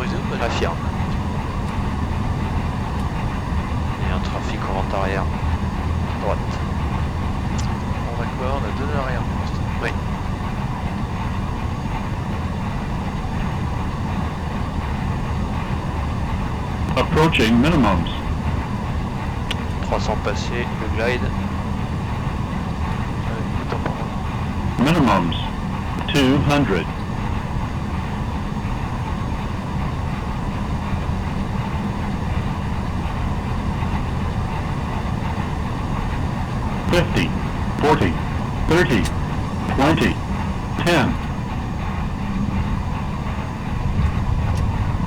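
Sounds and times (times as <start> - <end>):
airflow and engine rumble: 0.0 - 45.0.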